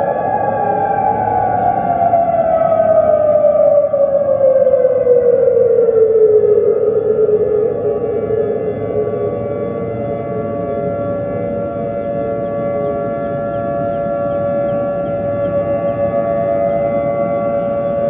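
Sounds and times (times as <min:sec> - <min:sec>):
siren steady tone: 0:00.0 - 0:18.0.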